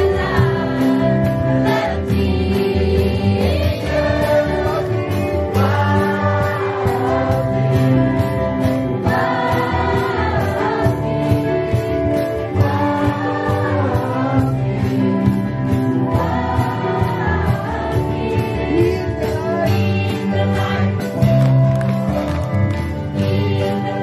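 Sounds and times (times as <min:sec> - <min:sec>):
women singing together: 0:00.0 - 0:21.7, 0:23.1 - 0:24.0
electric guitars: 0:00.0 - 0:24.0
keyboard: 0:00.0 - 0:24.0.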